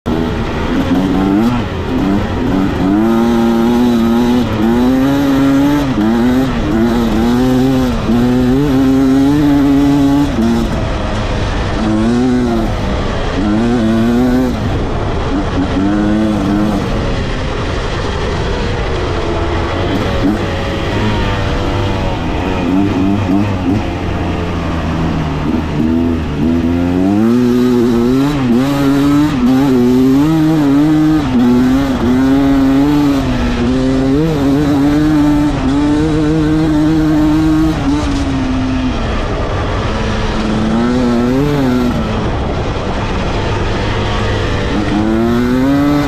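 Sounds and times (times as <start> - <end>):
dirt bike engine revving: 0.1 - 46.0.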